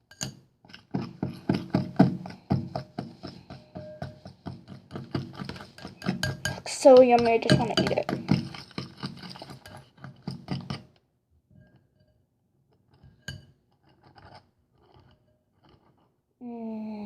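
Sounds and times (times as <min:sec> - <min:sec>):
utensil scraping a bowl: 0:00.0 - 0:11.0, 0:11.6 - 0:16.2.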